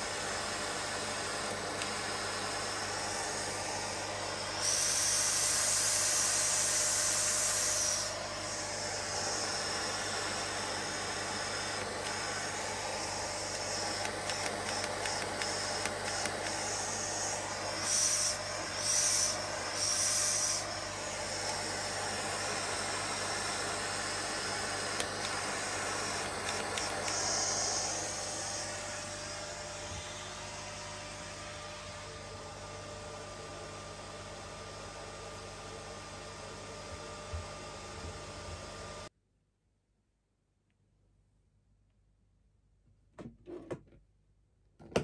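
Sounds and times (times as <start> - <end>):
grooming vacuum hissing: 0.0 - 39.1.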